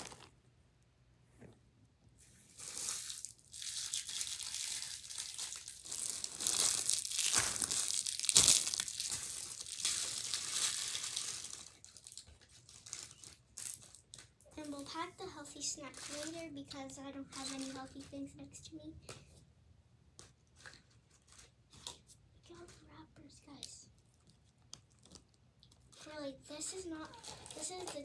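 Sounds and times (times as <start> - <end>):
plastic wrappers crinkling: 0.0 - 0.4, 2.5 - 18.1, 20.2 - 22.8, 23.5 - 28.0.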